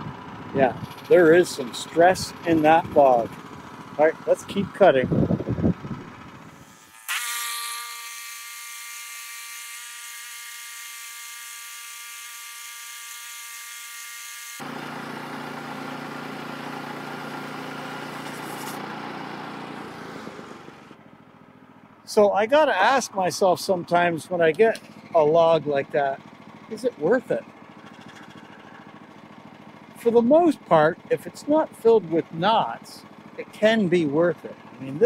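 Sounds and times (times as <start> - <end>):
bandsaw sawmill cutting log: 0.5 - 5.7, 6.4 - 21.0, 22.5 - 35.0.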